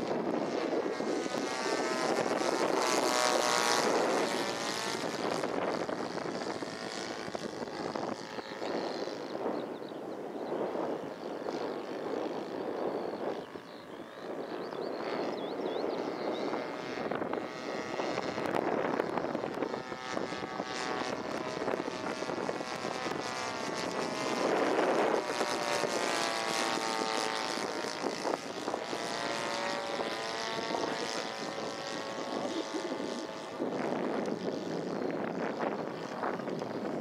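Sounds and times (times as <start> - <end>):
propeller plane flying past: 0.0 - 37.0.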